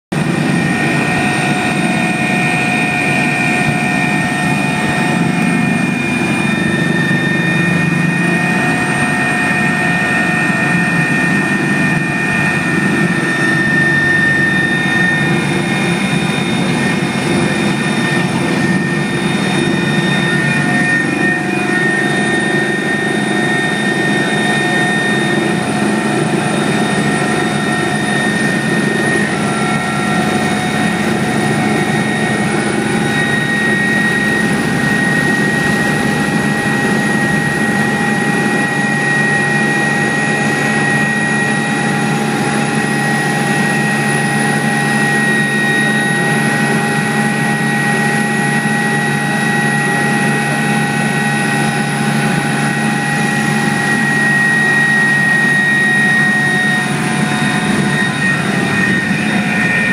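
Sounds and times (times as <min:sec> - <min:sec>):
helicopter engine and rotor drone: 0:00.1 - 0:59.9
high turbine whine: 0:00.1 - 0:59.9.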